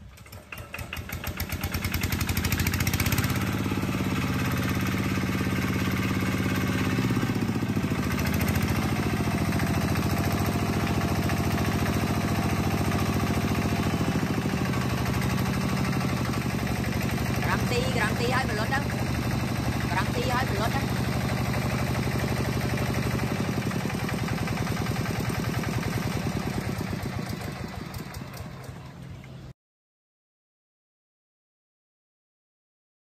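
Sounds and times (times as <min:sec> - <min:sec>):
diesel engine running: 0:00.0 - 0:29.5.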